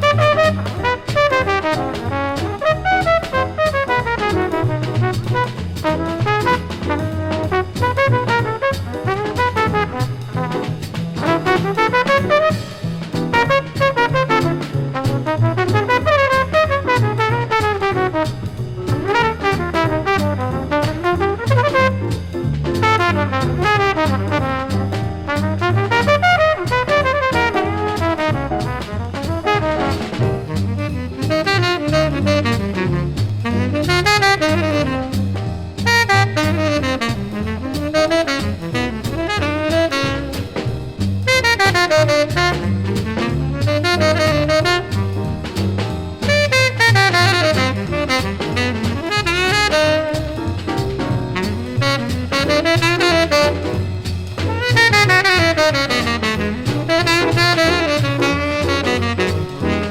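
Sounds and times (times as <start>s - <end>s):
horn playing sliding line: 0.0s - 59.9s
jazz band from vinyl record: 0.0s - 59.9s
walking bass: 0.0s - 59.9s.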